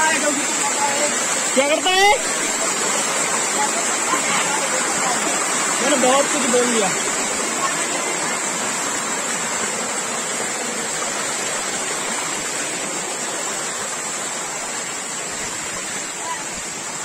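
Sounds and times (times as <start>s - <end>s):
water rushing over boulders: 0.0s - 17.0s.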